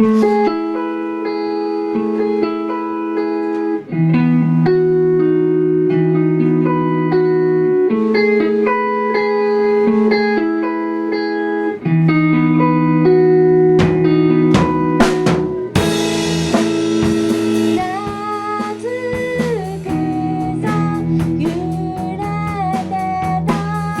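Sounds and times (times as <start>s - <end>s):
electric guitar chords: 0.0s - 24.0s.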